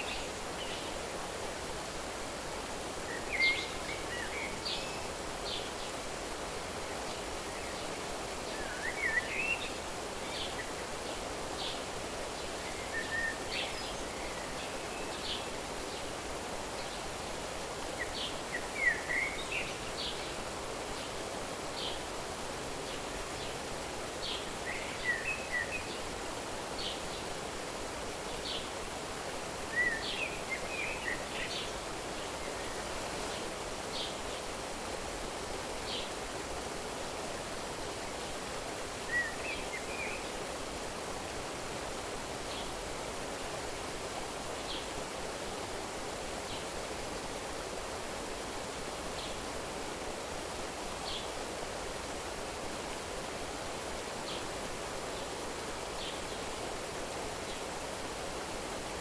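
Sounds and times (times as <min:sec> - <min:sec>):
small birds chirping: 0:00.0 - 0:43.8, 0:44.4 - 0:58.9
flowing water rushing: 0:00.0 - 0:59.0
wind rustling leaves: 0:00.0 - 0:59.0.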